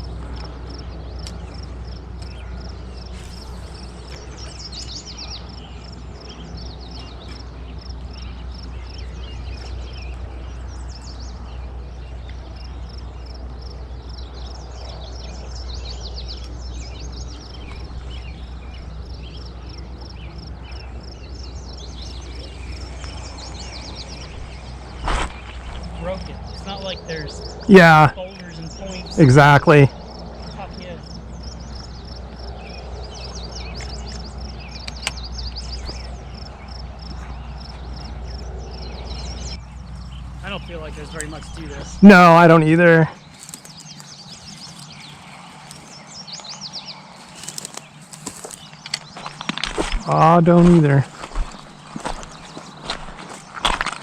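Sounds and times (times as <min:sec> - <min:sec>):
rushing open-air noise: 0:00.0 - 0:54.0
small birds chirping: 0:00.0 - 0:54.0.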